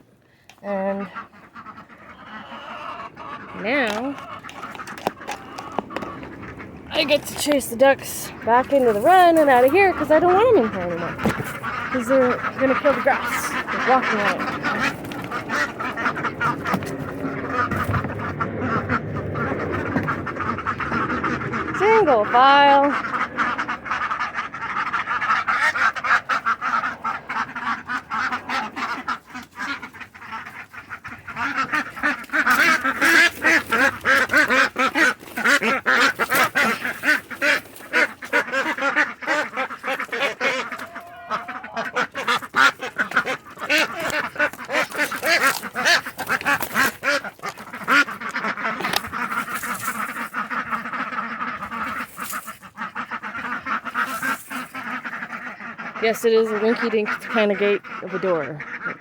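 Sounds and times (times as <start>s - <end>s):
ducks quacking: 0.0s - 59.0s.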